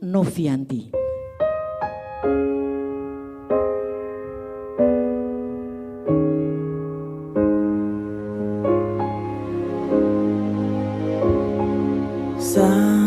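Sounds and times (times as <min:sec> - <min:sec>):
slow keyboard chords: 0:00.9 - 0:13.0.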